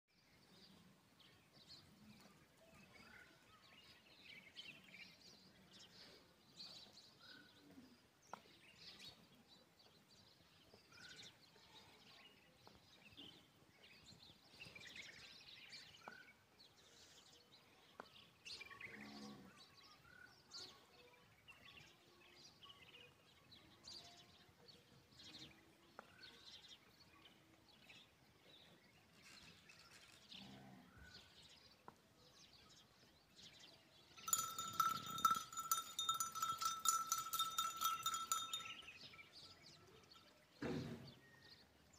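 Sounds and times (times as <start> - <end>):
faint bird chirping: 0.1 - 41.9.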